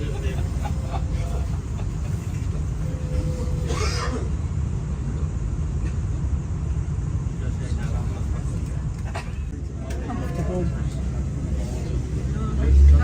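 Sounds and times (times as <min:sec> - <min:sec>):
light-rail train rumbling: 0:00.0 - 0:13.0.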